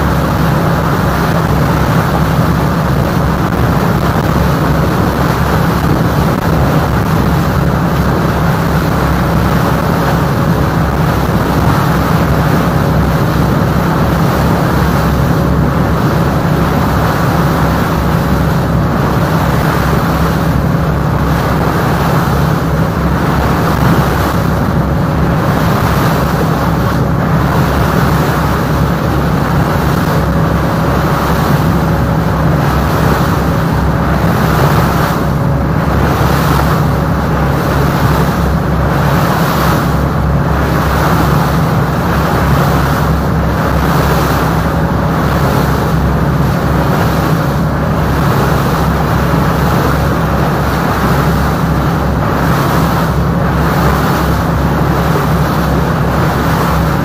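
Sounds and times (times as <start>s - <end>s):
boat diesel engine droning: 0.0s - 57.0s.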